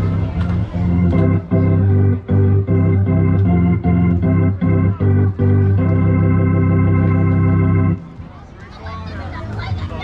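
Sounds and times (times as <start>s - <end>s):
organ music: 0.0s - 8.2s.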